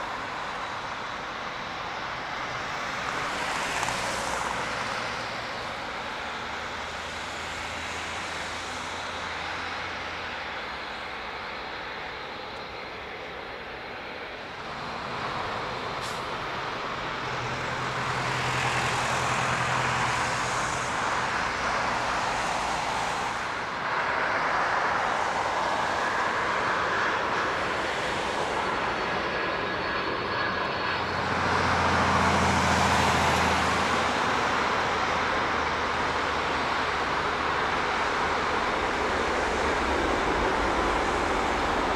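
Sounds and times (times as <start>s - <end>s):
jet engines of passing aircraft: 0.0s - 41.9s.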